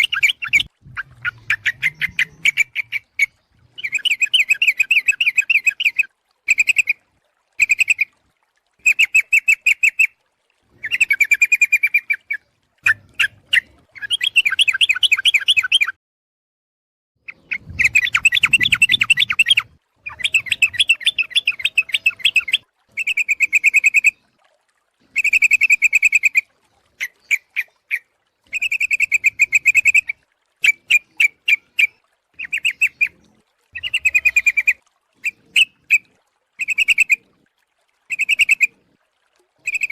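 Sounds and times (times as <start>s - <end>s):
bird bubbly chattering call: 0.0s - 7.0s, 7.6s - 8.2s, 8.8s - 15.9s, 17.2s - 24.2s, 25.1s - 37.3s, 38.1s - 38.8s, 39.6s - 39.9s.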